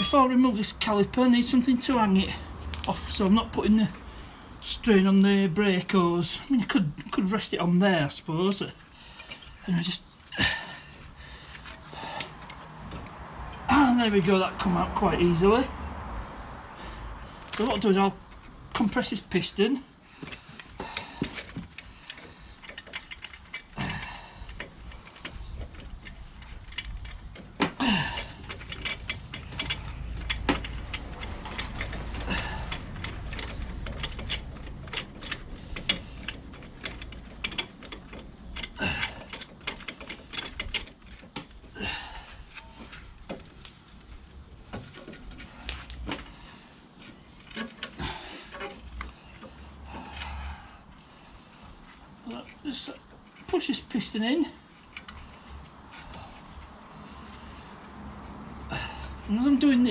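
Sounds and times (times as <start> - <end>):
metal hand tools clicking and ratcheting: 0.0 - 4.0, 8.5 - 15.6, 17.4 - 51.0, 51.7 - 59.9.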